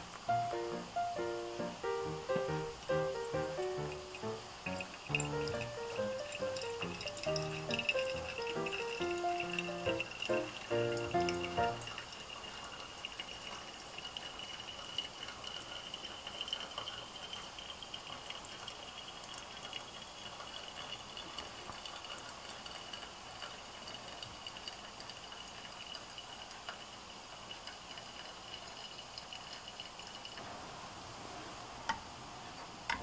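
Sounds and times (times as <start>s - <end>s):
water trickling onto coffee grounds: 0.0s - 33.0s.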